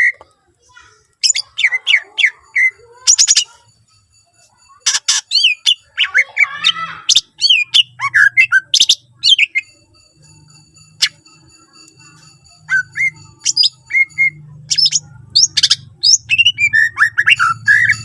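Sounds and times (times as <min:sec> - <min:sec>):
bird chirps and trills: 0:00.0 - 0:18.0.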